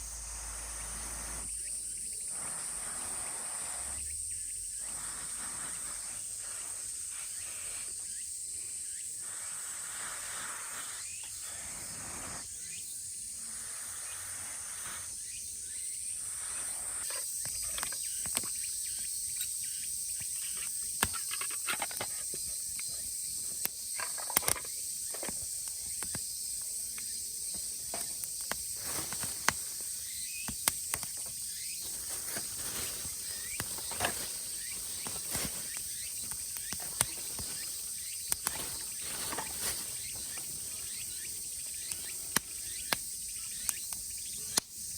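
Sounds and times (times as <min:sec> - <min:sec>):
cicadas droning: 0:00.0 - 0:44.9.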